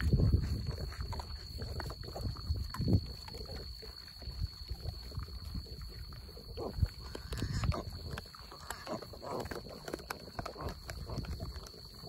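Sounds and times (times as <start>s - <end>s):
peccaries grunting and snuffling: 0.0s - 12.0s.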